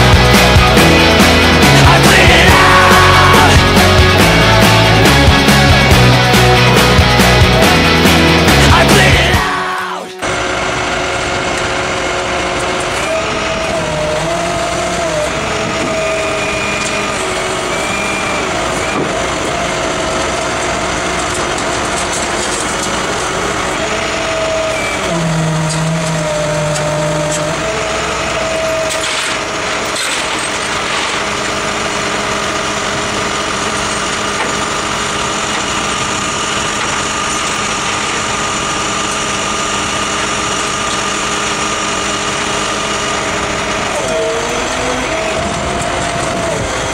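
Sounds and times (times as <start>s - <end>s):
hydraulic winch whine: 0.0s - 46.9s
truck engine running: 0.0s - 46.9s.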